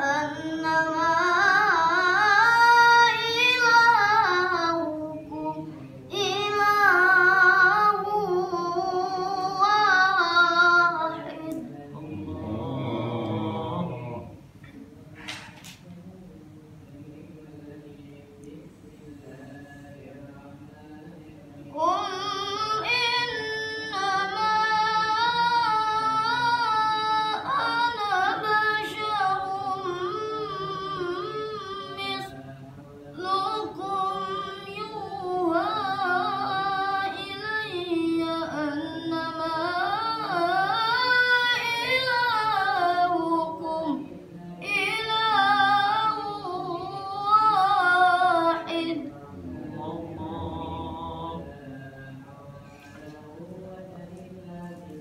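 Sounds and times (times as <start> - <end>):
child chanting melodic recitation: 0.0 - 14.4, 17.2 - 55.0.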